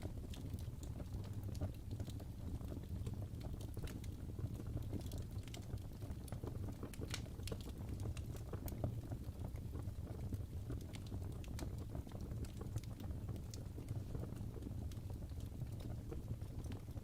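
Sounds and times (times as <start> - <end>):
flames rumbling: 0.0 - 17.0
logs crackling and popping: 0.0 - 17.0.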